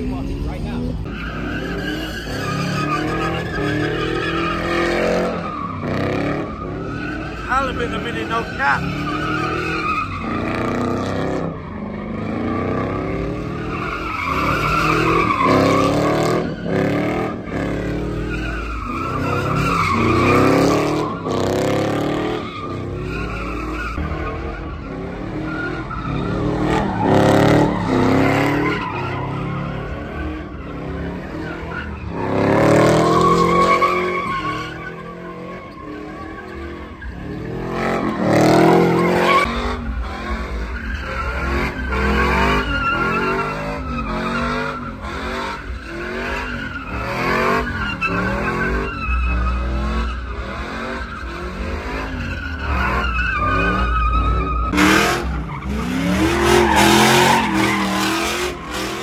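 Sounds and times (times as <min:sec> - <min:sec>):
tyres squealing on asphalt: 0:00.0 - 0:59.0.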